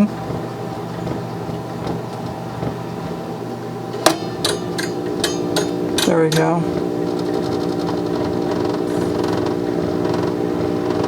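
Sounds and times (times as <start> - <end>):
amplifier hum through speaker: 0.0 - 11.0
scratchy crackles: 0.0 - 11.0.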